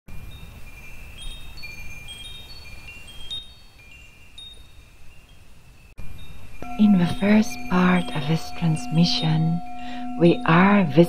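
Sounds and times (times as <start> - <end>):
wind chimes ringing: 0.1 - 11.0.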